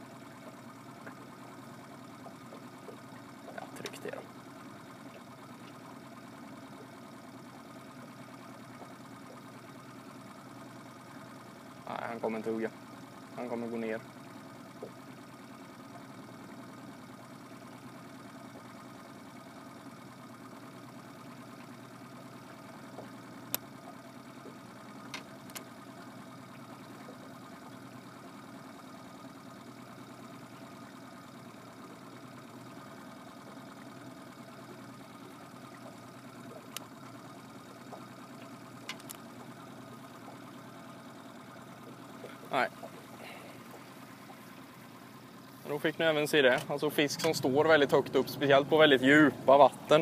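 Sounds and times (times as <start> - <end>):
small motor humming: 0.0 - 50.0.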